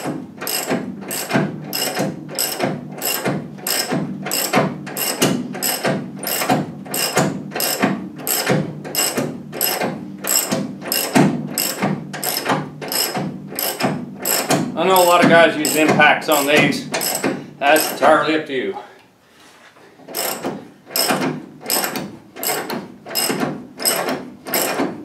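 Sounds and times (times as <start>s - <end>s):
ratchet wrench clicking: 0.4s - 18.0s, 20.1s - 24.8s.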